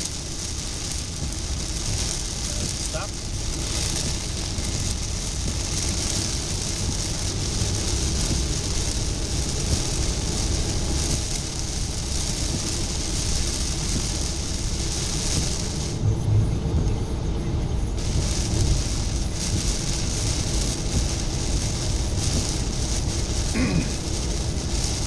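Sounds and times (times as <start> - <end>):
heavy rain on car windshield: 0.0 - 25.0
tyre and road noise: 0.0 - 25.0.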